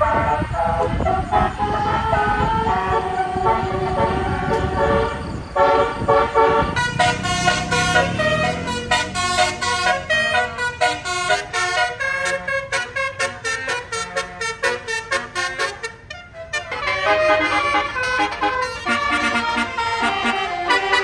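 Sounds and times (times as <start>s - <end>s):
bus engine rumble: 0.0s - 21.0s
bus musical horn melody: 0.0s - 21.0s.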